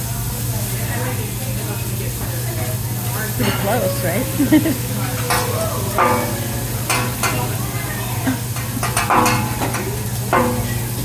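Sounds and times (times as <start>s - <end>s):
steady sizzle: 0.0s - 11.0s.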